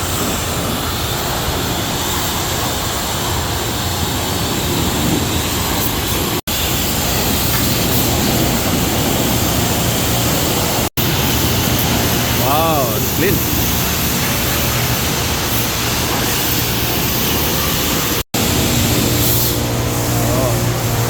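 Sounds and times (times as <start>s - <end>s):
high-pressure water spraying: 0.0s - 21.0s.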